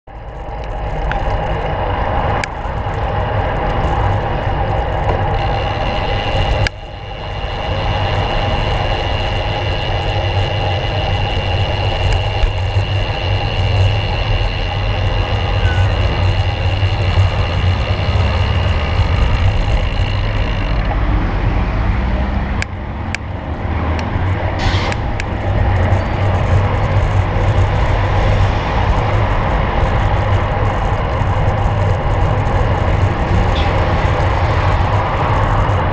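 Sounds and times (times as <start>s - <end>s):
car engines and tyres: 0.0s - 35.9s
wind rumble on microphone: 0.1s - 35.9s.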